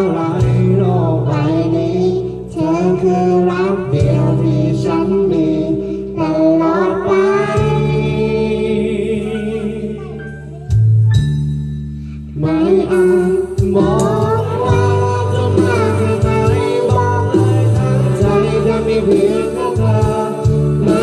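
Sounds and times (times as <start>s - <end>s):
man singing: 0.0s - 10.5s, 12.4s - 21.0s
girl singing: 0.0s - 10.9s, 12.5s - 21.0s
karaoke backing track: 0.0s - 21.0s.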